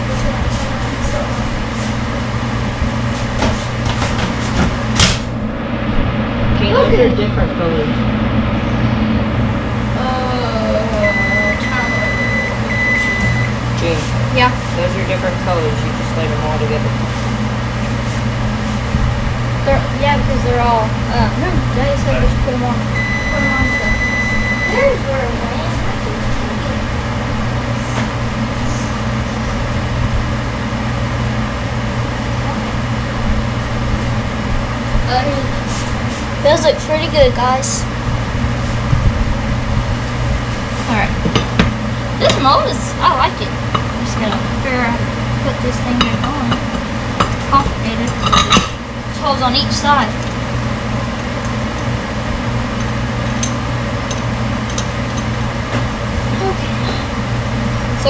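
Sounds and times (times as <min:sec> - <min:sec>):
appliance motor humming: 0:00.0 - 0:58.0
electric fan running: 0:00.0 - 0:58.0.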